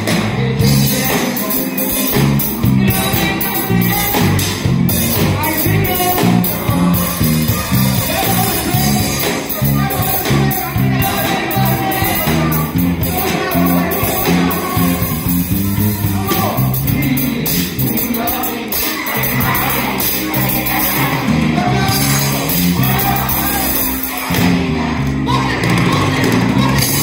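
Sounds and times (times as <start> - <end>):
bass line: 0.0 - 27.0
electric guitars: 0.0 - 27.0
group of people singing: 0.0 - 27.0
live band playing r and b: 0.0 - 27.0.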